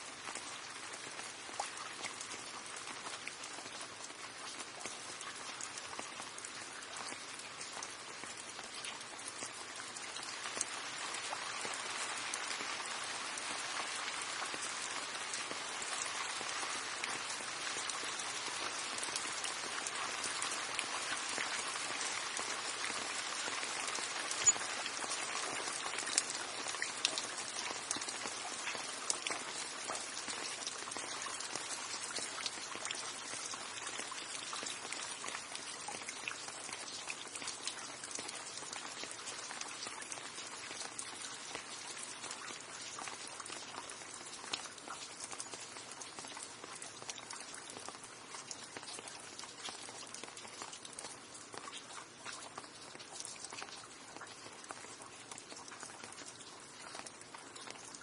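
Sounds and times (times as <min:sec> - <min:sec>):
raindrops ticking on a surface: 0:00.0 - 0:58.0
steady rain: 0:00.0 - 0:58.0.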